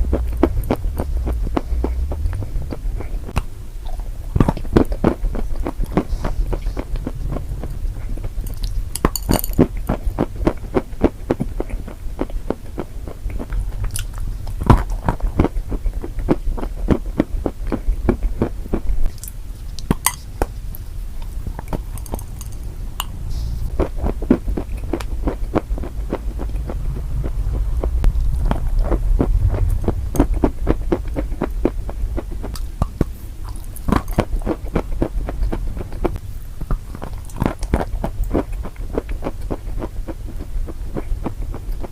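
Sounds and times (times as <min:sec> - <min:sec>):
chewing crunchy food: 0:00.0 - 0:41.9
steady low hum: 0:00.0 - 0:41.9.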